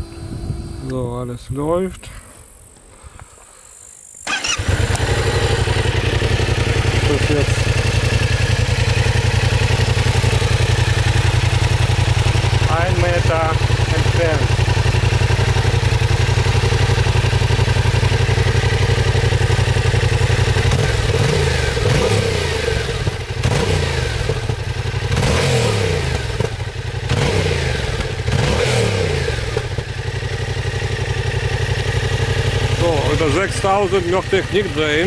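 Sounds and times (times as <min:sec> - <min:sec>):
motorcycle engine idling and revving: 0:00.0 - 0:01.5, 0:03.8 - 0:35.0.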